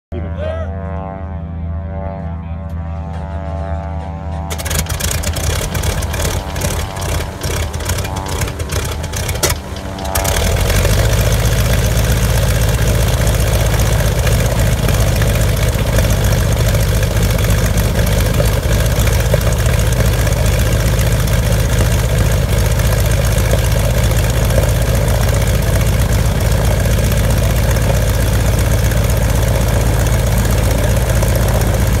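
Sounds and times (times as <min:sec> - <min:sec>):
radial engine cranking and idling: 0:04.4 - 0:32.0.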